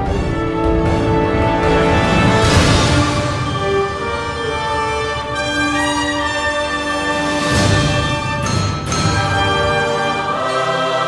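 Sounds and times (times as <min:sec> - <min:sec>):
orchestral music with held notes: 0:00.0 - 0:11.0.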